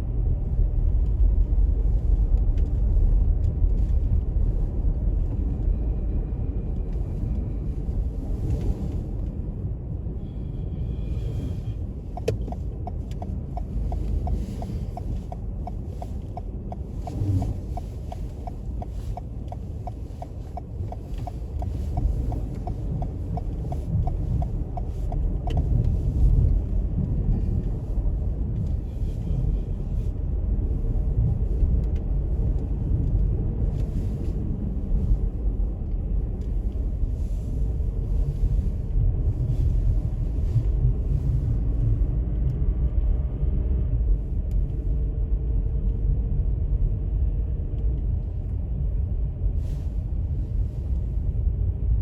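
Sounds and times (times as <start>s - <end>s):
car rumbling on the move: 0.0s - 52.0s.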